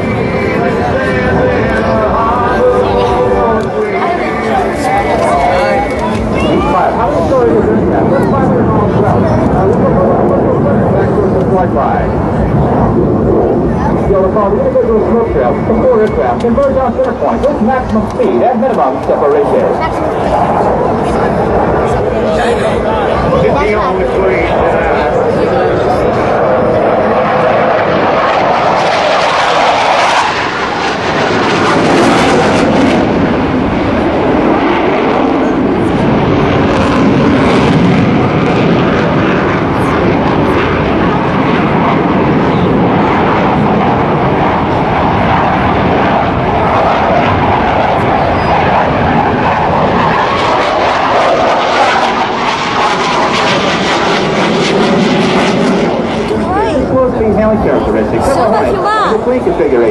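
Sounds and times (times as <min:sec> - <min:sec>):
jet engine noise: 0:00.0 - 0:59.9.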